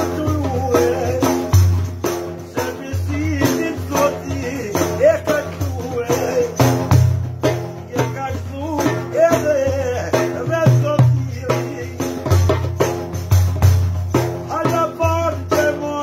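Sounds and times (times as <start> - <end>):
man singing: 0.0 - 13.2, 14.1 - 16.0
frame drum with jingles: 0.0 - 16.0.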